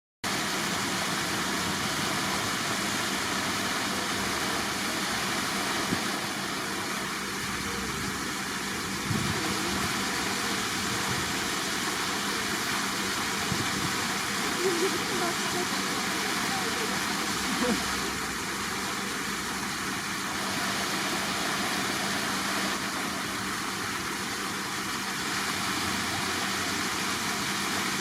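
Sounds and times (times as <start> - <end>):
water rushing: 0.2 - 28.0.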